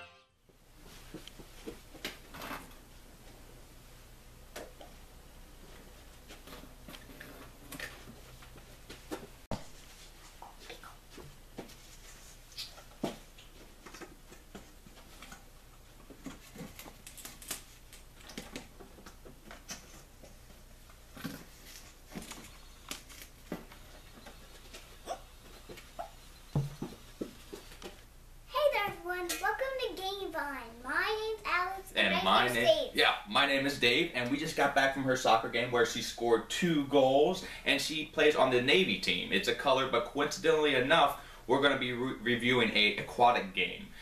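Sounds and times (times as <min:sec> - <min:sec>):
faint room hum: 0:00.0 - 0:44.0.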